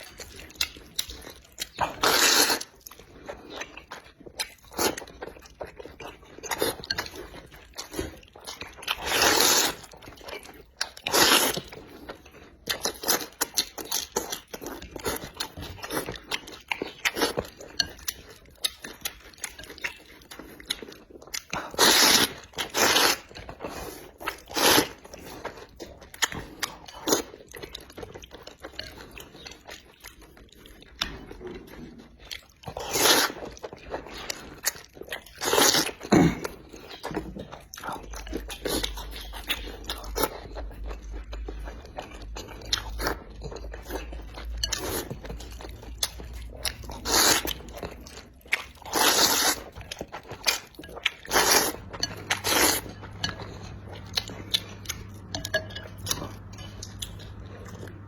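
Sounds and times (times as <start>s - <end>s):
person chewing seafood: 0.0s - 58.0s.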